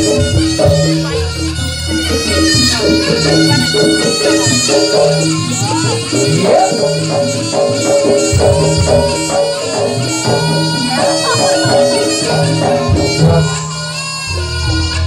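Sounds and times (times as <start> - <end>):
struck metal notes: 0.0 - 14.0
drums: 0.0 - 15.0
shrill reed shawm melody: 0.0 - 15.0.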